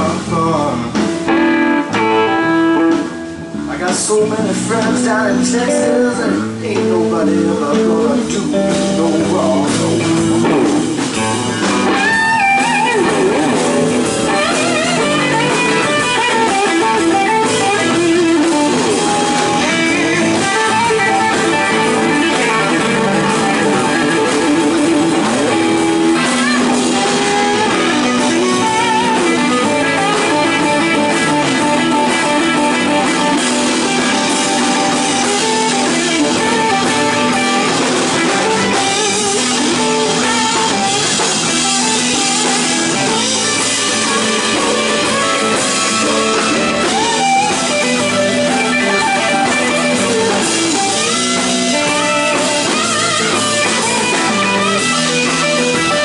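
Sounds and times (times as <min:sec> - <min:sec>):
drums: 0:00.0 - 0:56.0
electric guitar solo: 0:00.0 - 0:56.0.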